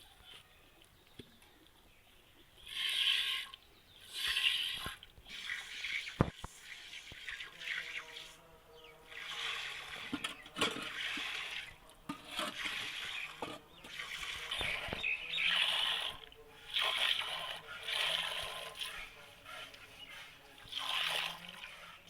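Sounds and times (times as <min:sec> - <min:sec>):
milk squirting into a pail: 0:02.6 - 0:08.4, 0:09.0 - 0:22.0.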